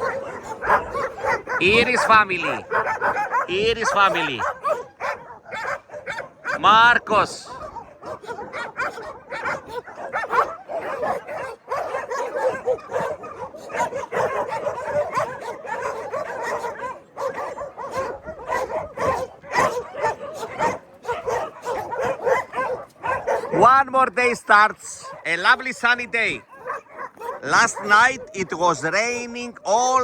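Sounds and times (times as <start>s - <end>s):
dogs barking and yipping: 0.0s - 30.0s.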